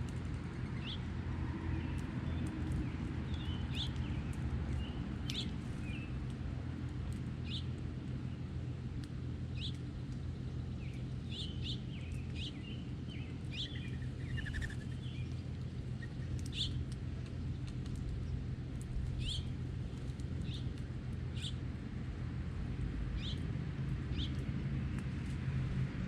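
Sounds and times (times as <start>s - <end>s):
songbirds chirping: 0.0s - 23.5s
steady low rumble: 0.0s - 26.0s.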